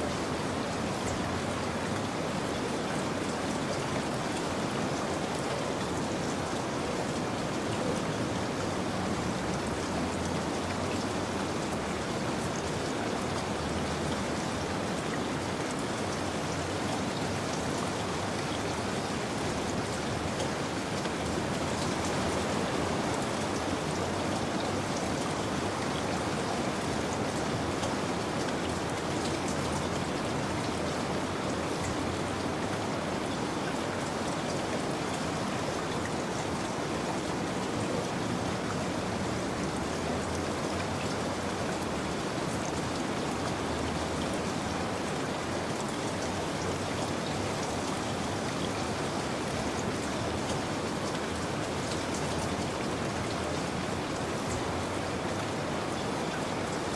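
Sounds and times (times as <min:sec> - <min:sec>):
rain pattering on a surface: 0:00.0 - 0:56.9.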